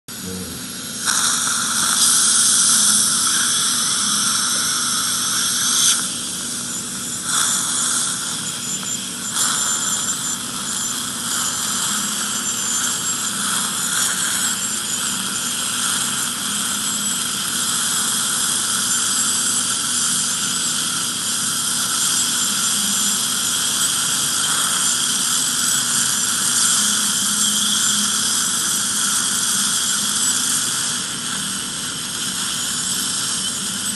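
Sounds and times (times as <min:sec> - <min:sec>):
ultrasonic dental scaler whine: 0:00.1 - 0:33.9.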